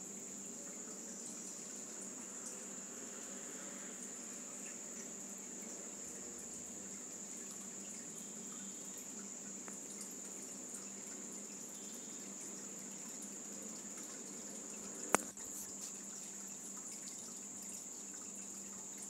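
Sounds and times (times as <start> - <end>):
flowing river water: 0.0 - 19.0
high-pitched insect trill: 0.0 - 19.0.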